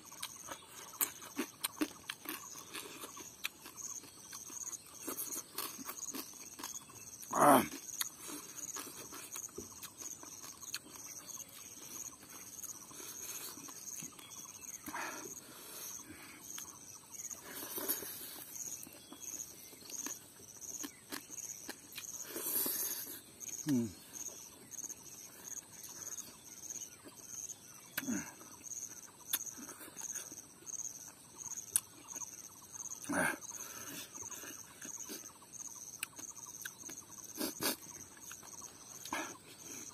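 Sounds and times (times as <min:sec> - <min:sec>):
chewing and lip smacking: 0:00.0 - 0:27.2, 0:28.8 - 0:33.1, 0:33.8 - 0:39.9
insect chirring: 0:00.0 - 0:39.9.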